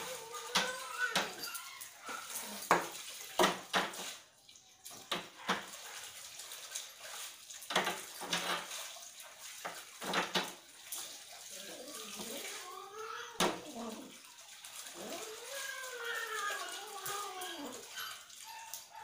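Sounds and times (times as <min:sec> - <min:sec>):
animals scuffling on tiled floor: 0:00.0 - 0:04.3, 0:04.9 - 0:13.0, 0:13.7 - 0:19.0.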